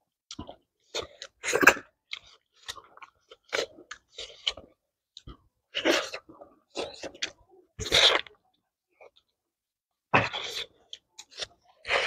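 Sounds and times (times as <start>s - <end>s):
people biting and chewing: 0.3s - 8.4s, 10.2s - 12.0s.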